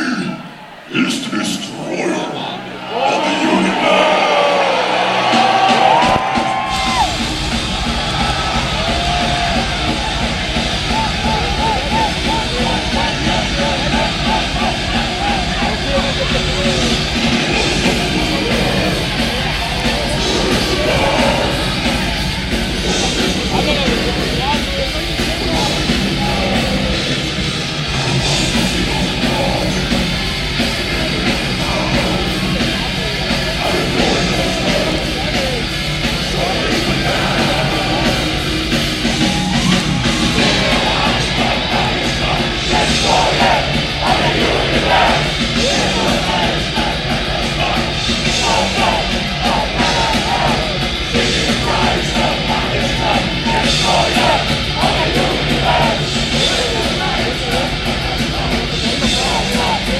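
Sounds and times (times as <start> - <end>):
metal band playing live: 1.2 - 59.9.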